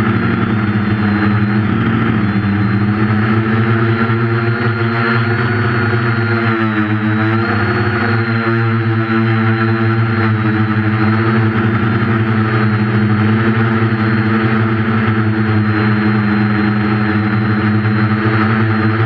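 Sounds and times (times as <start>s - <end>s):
quadcopter motors droning: 0.0s - 19.0s.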